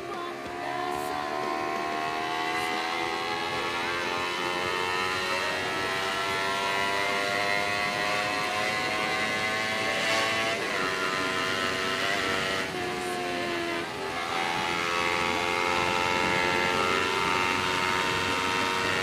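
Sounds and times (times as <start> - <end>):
motorcycle engine running steadily: 0.0 - 19.0.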